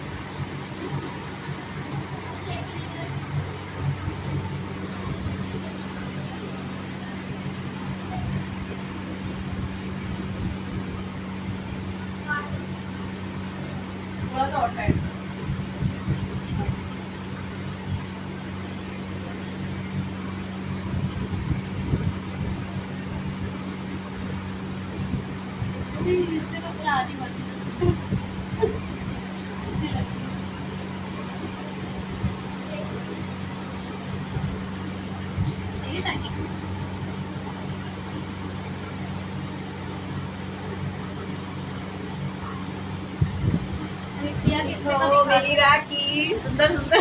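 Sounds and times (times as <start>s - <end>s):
low electrical hum: 0.0s - 47.0s.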